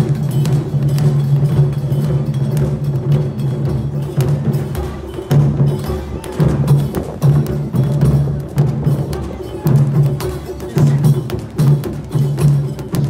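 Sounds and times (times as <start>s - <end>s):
drum and wood block strikes: 0.0s - 13.0s.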